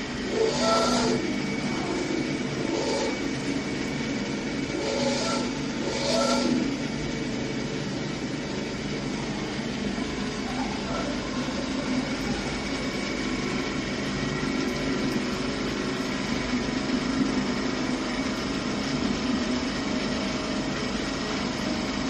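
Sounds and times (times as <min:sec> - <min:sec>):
machinery droning: 0:00.0 - 0:22.0.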